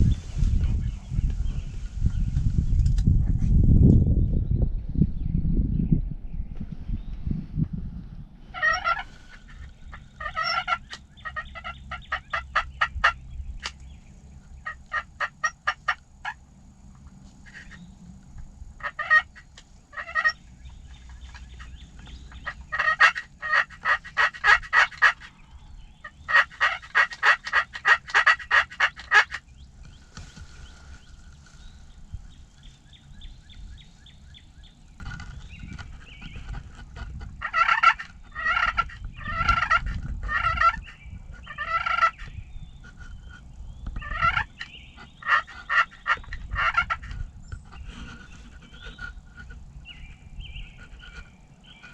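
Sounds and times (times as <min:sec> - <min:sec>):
wild turkey calling: 0:08.5 - 0:16.6, 0:17.4 - 0:51.9.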